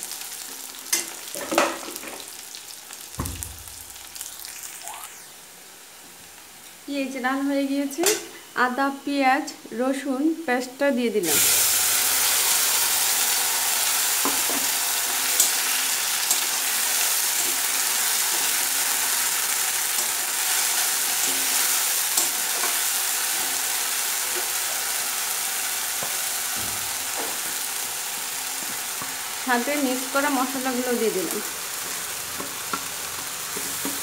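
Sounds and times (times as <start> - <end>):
paste sizzling in hot oil: 0.0 - 6.6, 11.2 - 34.0.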